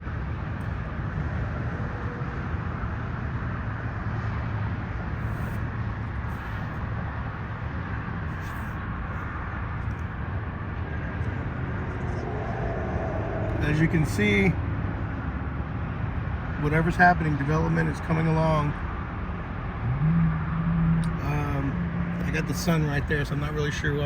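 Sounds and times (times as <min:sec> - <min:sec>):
low rumble of vehicle noise: 0:00.0 - 0:24.0.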